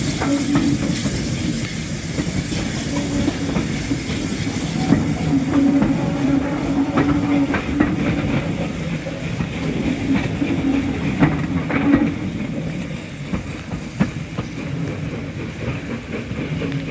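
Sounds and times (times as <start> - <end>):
steady train hum: 0.0 - 16.9
train wheels clicking over rail joints: 0.0 - 16.9.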